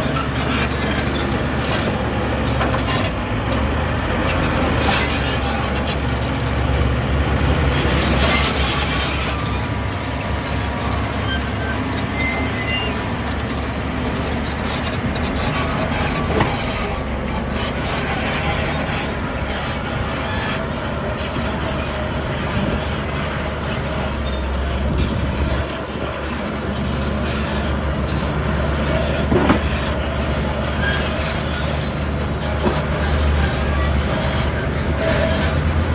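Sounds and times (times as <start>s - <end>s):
heavy diesel machinery rumbling: 0.0s - 35.9s.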